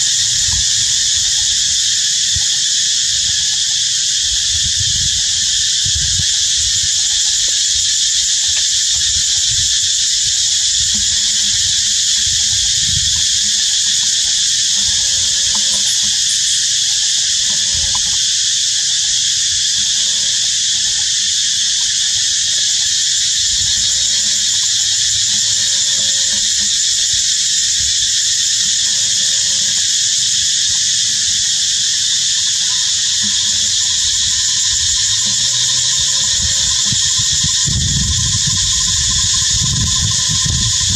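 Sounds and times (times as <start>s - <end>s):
cicada chorus buzzing: 0.0s - 40.9s.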